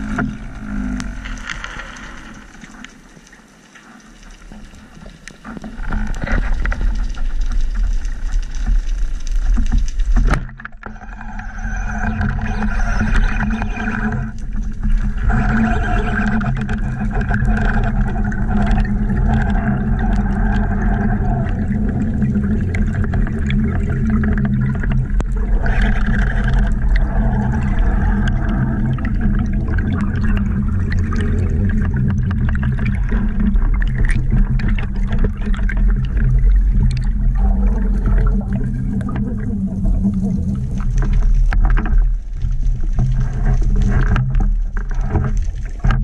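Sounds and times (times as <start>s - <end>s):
underwater low rumble: 0.0s - 46.0s
faint clicks: 0.1s - 39.3s.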